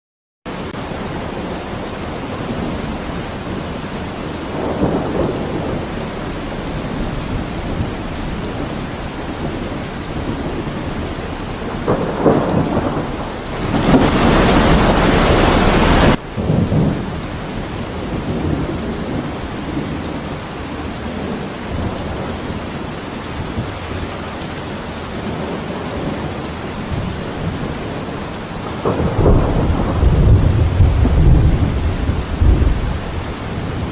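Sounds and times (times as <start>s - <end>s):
heavy rain: 0.5s - 33.9s
thunder rolling: 0.8s - 22.7s, 25.2s - 33.9s.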